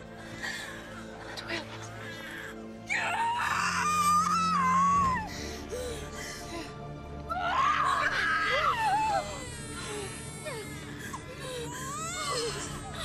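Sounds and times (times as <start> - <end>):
low sustained music score: 0.0 - 13.0.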